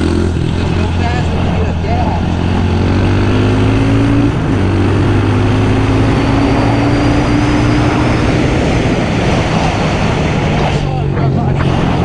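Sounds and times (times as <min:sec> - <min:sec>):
loud rushing noise: 0:00.0 - 0:12.0
small vehicle engine running: 0:00.0 - 0:12.0.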